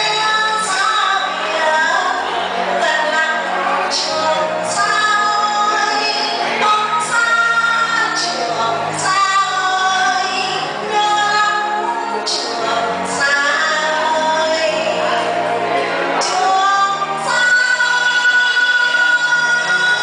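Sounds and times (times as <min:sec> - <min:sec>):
instrumental backing music: 0:00.0 - 0:20.0
woman singing into a microphone: 0:00.0 - 0:20.0.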